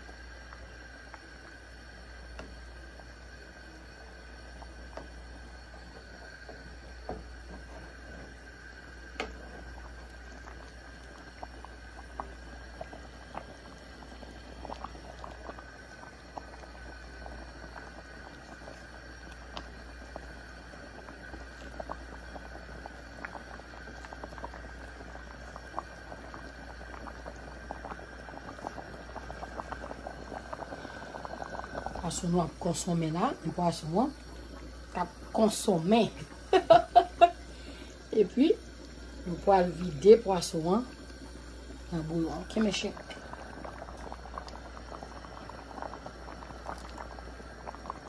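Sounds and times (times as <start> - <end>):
broth bubbling: 0.0 - 48.0
bubbles popping: 4.3 - 48.0.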